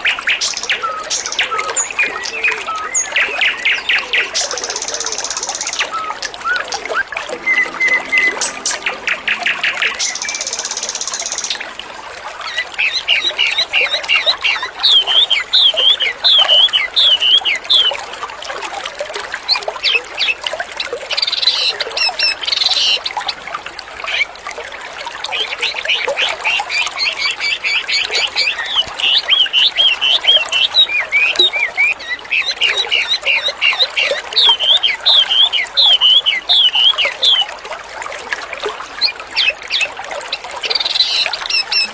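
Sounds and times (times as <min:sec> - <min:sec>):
running water trickling: 0:00.0 - 0:41.9.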